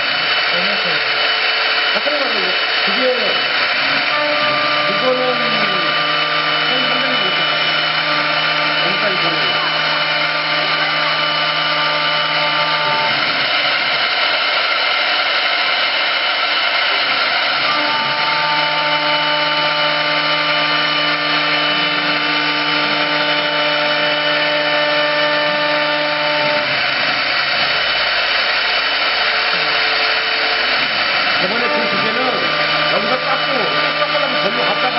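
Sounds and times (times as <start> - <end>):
high machine whine: 0.0 - 34.9
router machine running: 0.0 - 34.9.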